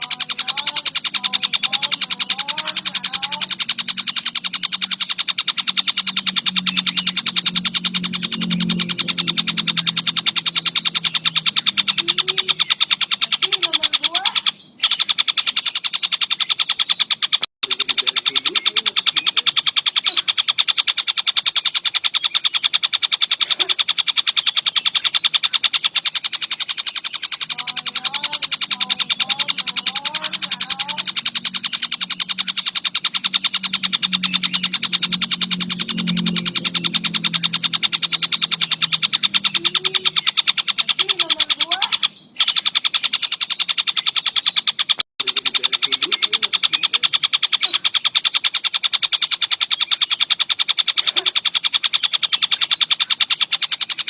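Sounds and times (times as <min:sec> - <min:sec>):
kingfisher rattling call: 0:00.0 - 0:54.0.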